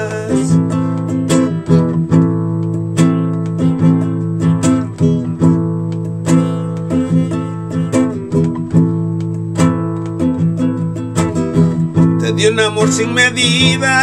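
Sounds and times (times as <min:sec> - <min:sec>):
classical guitar strumming chords: 0:00.0 - 0:14.0.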